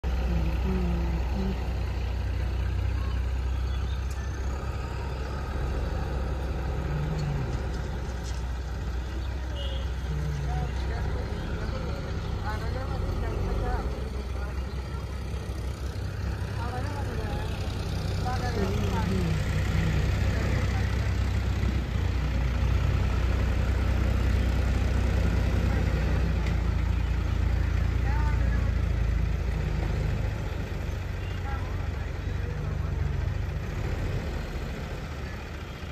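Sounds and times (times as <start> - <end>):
diesel engines rumbling: 0.0 - 35.9.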